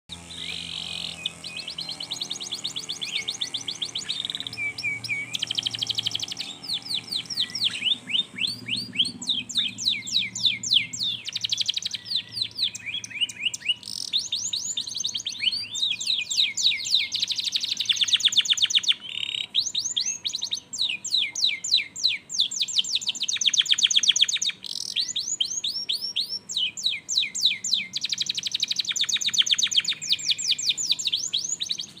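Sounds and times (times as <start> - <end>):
canary singing trills: 0.1 - 32.0.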